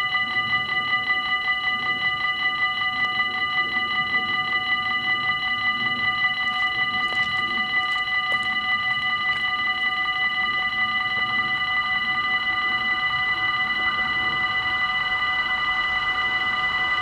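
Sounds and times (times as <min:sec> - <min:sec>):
level-crossing bells ringing: 0:00.0 - 0:17.0.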